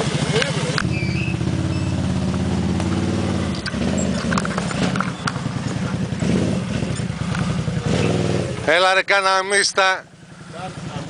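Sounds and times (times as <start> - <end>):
quad bike engine at low revs: 0.0 - 11.0.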